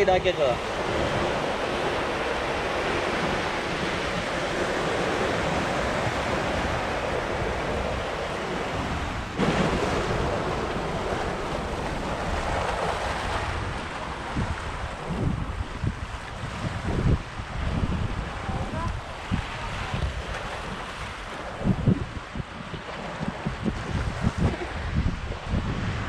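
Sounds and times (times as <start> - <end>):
sea surf washing onto beach: 0.0 - 26.0
wind buffeting microphone: 0.0 - 26.0.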